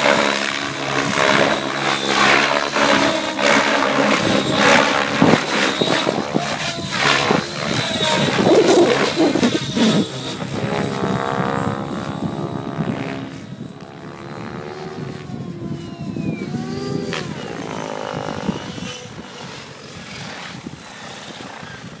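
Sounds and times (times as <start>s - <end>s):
rc helicopter motor and rotors whining: 0.0s - 22.0s.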